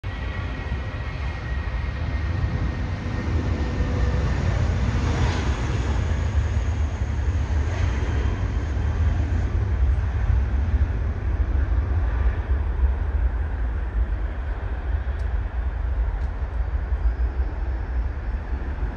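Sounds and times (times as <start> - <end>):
jet engine rumble: 0.0 - 18.9.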